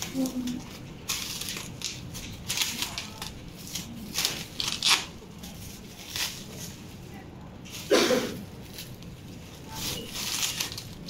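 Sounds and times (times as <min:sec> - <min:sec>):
stretch wrap film crackling: 0:00.0 - 0:11.0.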